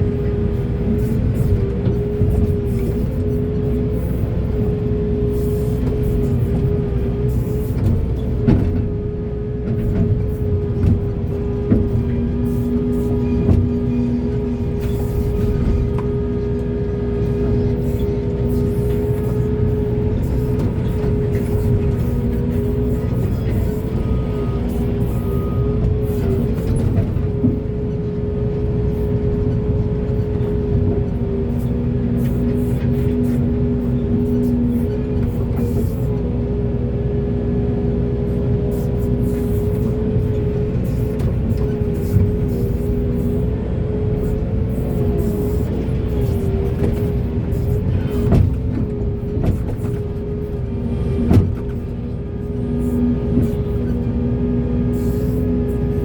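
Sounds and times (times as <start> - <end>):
constant whine: 0.0 - 56.0
excavator diesel engine running: 0.0 - 56.0.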